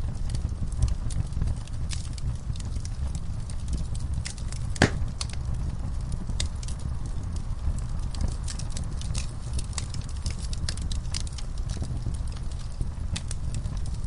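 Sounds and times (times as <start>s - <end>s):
low rumble of burning: 0.0s - 14.0s
wood fire crackling and popping: 0.0s - 14.0s.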